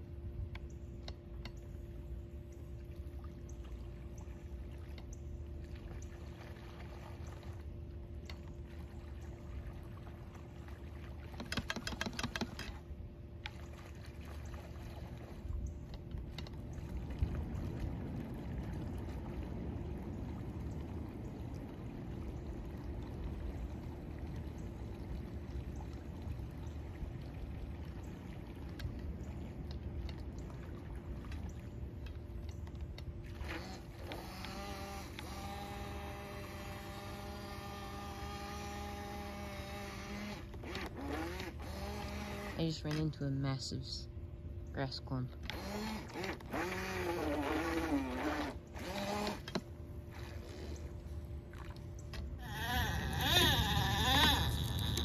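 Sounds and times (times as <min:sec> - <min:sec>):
model boat motor humming: 0:00.0 - 0:18.0, 0:20.4 - 0:44.1, 0:44.8 - 0:55.0.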